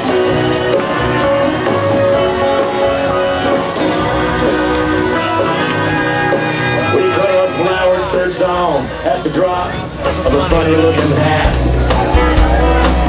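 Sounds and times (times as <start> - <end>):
live band playing: 0.0 - 13.0
strummed guitar: 0.0 - 13.0.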